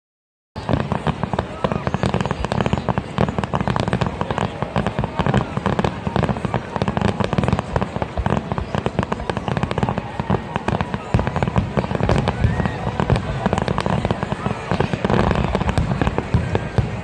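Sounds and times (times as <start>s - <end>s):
fireworks bangs and crackles: 0.6s - 17.0s.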